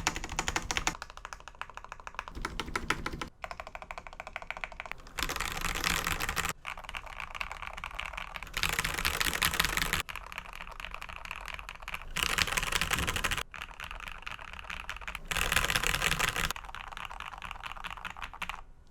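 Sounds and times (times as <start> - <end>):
mechanical keyboard typing: 0.0 - 18.9.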